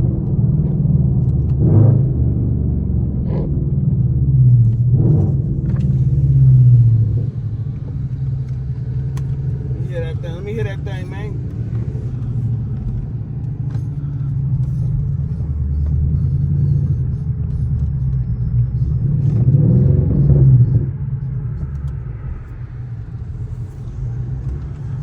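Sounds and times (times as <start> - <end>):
car exhaust deep rumble: 0.0 - 25.0.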